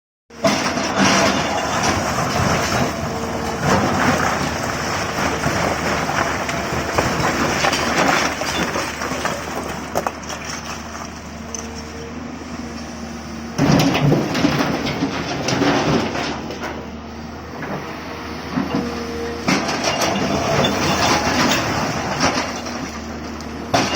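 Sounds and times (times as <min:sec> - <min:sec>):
excavator diesel engine running: 0:00.3 - 0:23.9.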